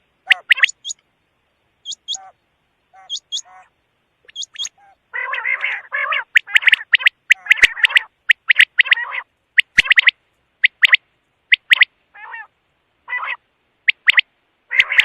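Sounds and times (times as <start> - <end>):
quail calling: 0.2 - 1.0, 1.8 - 15.0.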